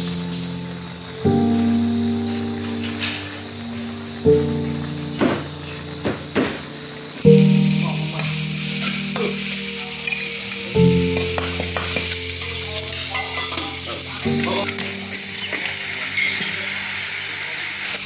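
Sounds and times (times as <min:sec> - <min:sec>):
sauce sizzling in a wok: 0:00.0 - 0:05.8, 0:06.6 - 0:18.0.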